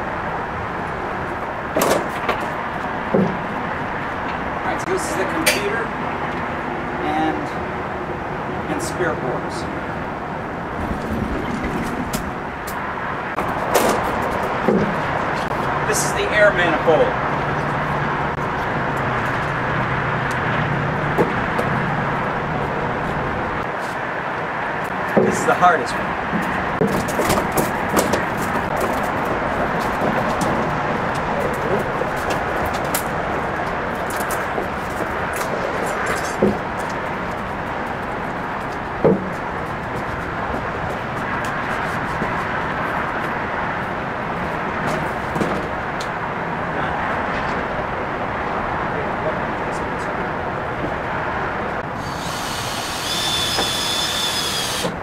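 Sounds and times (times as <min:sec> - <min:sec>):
outdoor rumble and hiss: 0:00.0 - 0:55.0.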